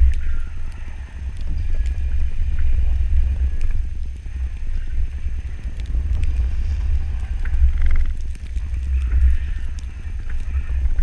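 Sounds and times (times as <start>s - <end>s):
wind buffeting microphone: 0.0s - 11.0s
truck rumbling through snow: 1.2s - 11.0s.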